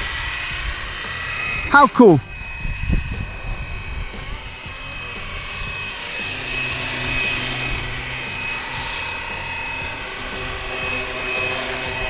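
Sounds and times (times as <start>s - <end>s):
electric motor high whine: 0.0s - 12.0s.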